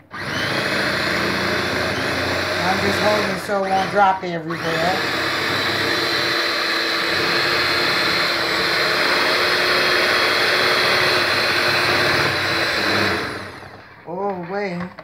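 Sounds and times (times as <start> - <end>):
electric hand mixer whining: 0.0 - 15.0.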